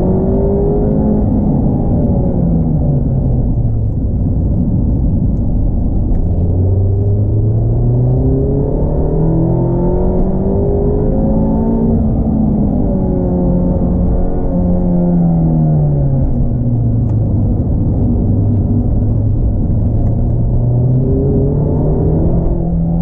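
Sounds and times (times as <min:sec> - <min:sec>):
car engine accelerating: 0:00.0 - 0:23.0
road and tyre noise: 0:00.0 - 0:23.0.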